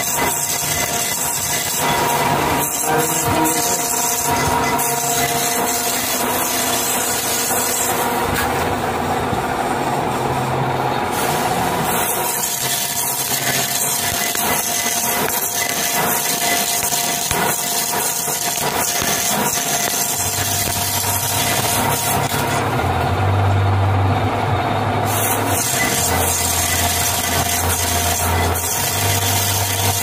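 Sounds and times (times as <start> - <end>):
lathe cutting hiss: 0.0 - 8.6, 9.8 - 22.7, 25.0 - 30.0
machine running hum: 0.0 - 30.0.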